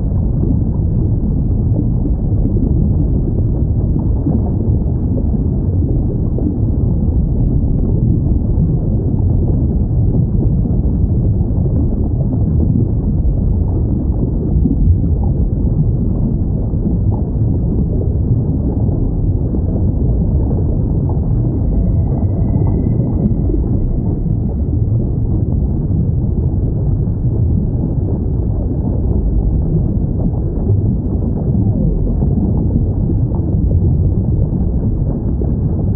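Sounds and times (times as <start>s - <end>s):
low underwater rumble: 0.0s - 35.9s.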